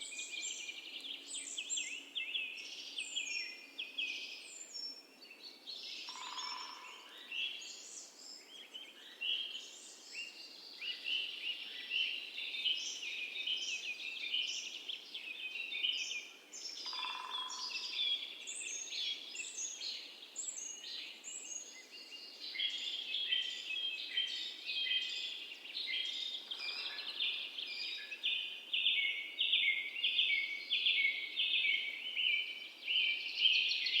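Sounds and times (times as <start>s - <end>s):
birds chirping chorus: 0.0s - 34.0s.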